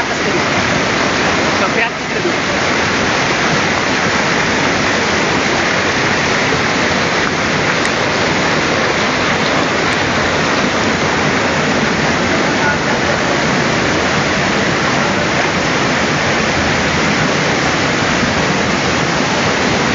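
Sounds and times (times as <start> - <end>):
river water rushing over rocks: 0.0 - 19.9.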